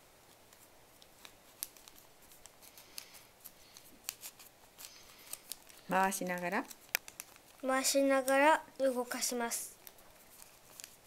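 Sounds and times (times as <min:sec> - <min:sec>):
paper clicks and crinkles: 0:00.2 - 0:11.0.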